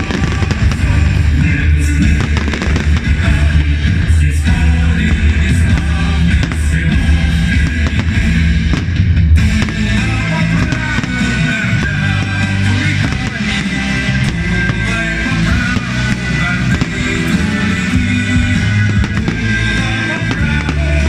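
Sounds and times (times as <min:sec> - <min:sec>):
firework bangs and crackles: 0:00.0 - 0:21.0
loud rock music: 0:00.0 - 0:21.0.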